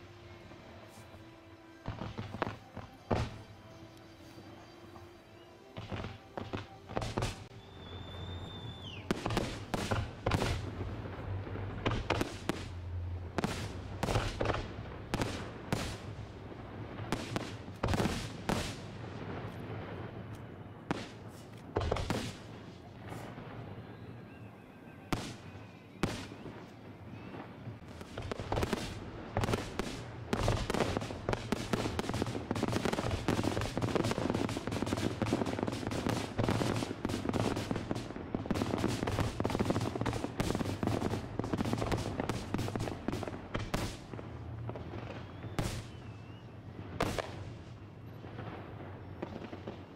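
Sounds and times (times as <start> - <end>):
fireworks bursting with sharp bangs: 0.0 - 49.9.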